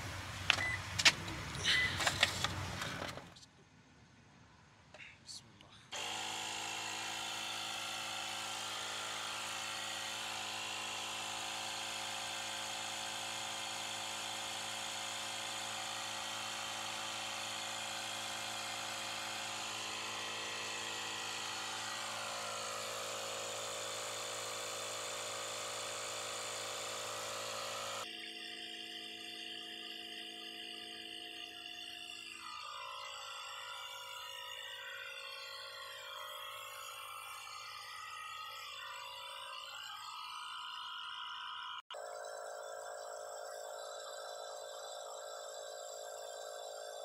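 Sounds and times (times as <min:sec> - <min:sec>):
air compressor buzzing hum: 0:05.9 - 0:47.0.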